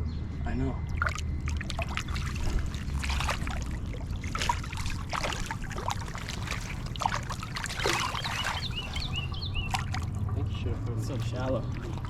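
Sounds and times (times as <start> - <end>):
water splashing and sloshing: 0.8 - 12.0.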